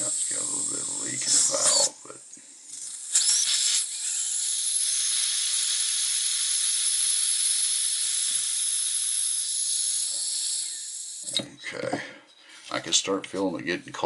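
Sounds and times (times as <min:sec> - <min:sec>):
gas hissing from lighter valve: 0:00.0 - 0:11.5.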